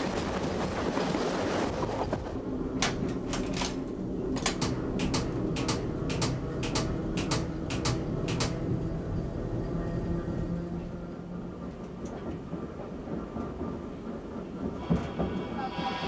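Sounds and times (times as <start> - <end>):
train running hum: 0.0 - 16.0.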